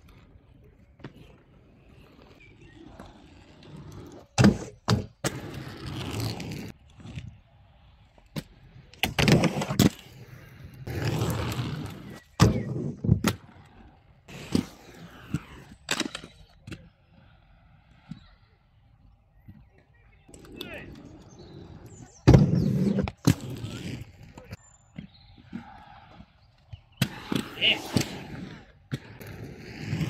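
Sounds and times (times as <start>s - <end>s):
skate wheels rolling on concrete: 0.0s - 30.0s.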